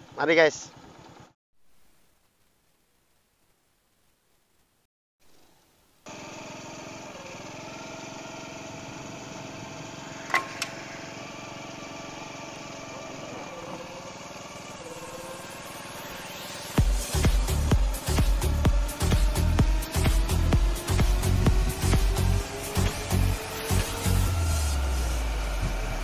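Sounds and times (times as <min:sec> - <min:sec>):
small engine running: 0:00.0 - 0:01.4, 0:06.0 - 0:26.0.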